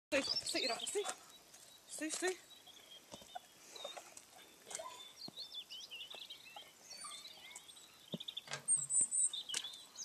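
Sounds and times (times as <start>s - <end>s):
small birds chirping and twittering: 0.1s - 10.0s.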